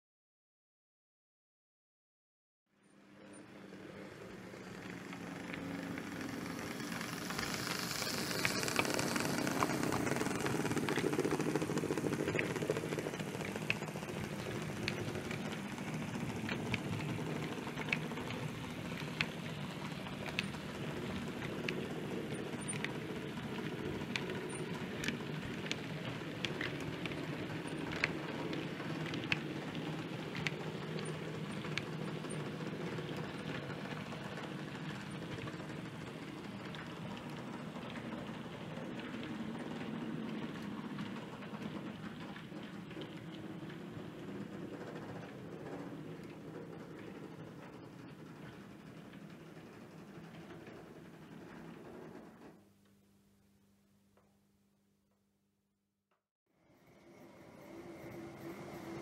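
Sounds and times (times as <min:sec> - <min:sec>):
model train rumbling: 0:03.0 - 0:52.6, 0:56.6 - 0:59.0
wheels clicking over rail joints: 0:03.8 - 0:52.6.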